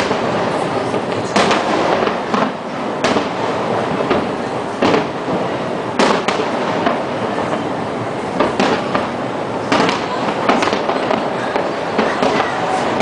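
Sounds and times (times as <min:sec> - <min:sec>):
dense rush of noise: 0:00.0 - 0:13.0
fireworks bangs: 0:00.0 - 0:13.0.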